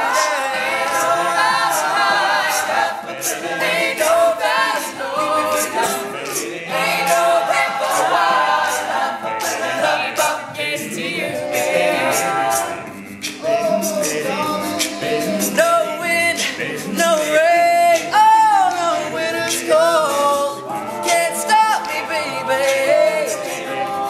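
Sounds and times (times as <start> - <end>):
male group singing in harmony: 0.0 - 24.0.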